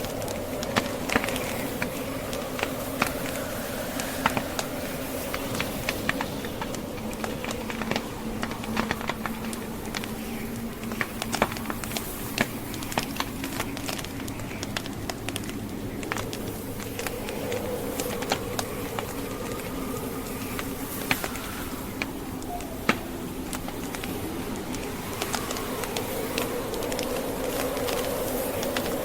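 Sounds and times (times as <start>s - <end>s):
blizzard wind drone: 0.0s - 29.0s
wood fire crackling and popping: 0.0s - 29.0s.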